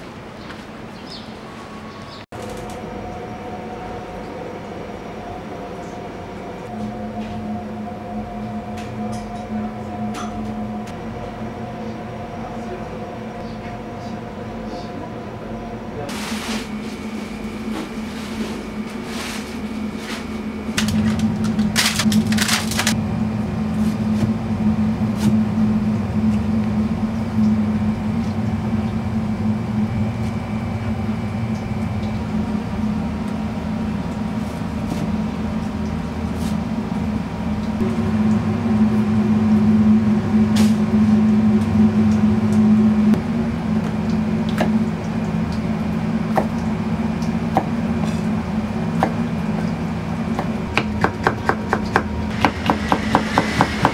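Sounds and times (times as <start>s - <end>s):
electrical hum of kitchen machinery: 2.4s - 53.9s.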